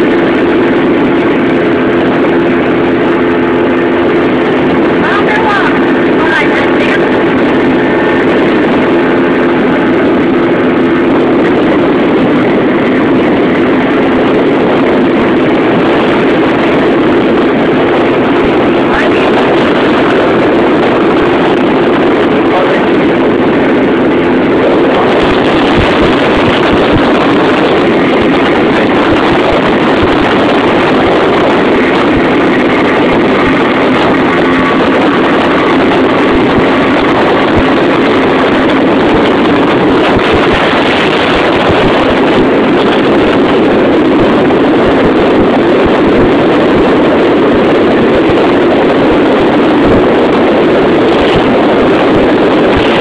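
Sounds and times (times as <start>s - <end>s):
motorboat engine drone: 0.0s - 53.0s
water rushing along hull: 0.0s - 53.0s
wind buffeting microphone: 0.0s - 53.0s.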